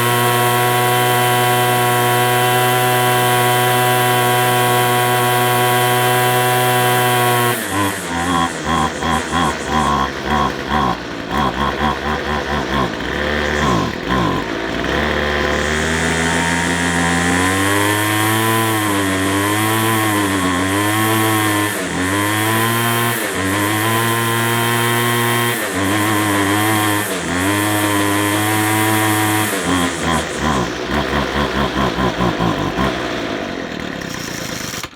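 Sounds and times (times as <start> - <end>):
strimmer engine revving: 0.0 - 34.9.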